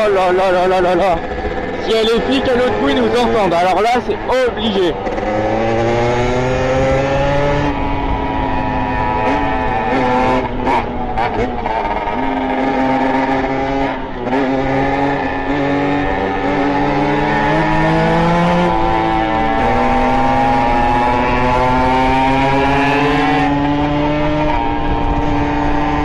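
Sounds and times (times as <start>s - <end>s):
moped engine revving: 0.0s - 26.0s.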